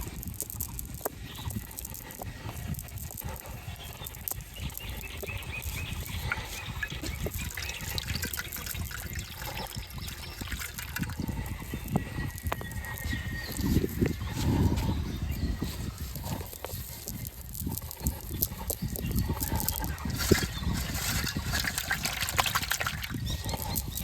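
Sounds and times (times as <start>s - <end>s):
water splashing and dripping: 0.0s - 14.9s, 15.6s - 24.0s.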